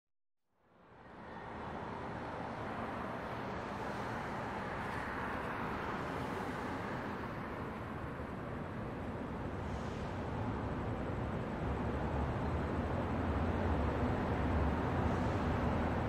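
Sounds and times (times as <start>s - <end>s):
steady rushing background noise: 1.0s - 16.0s.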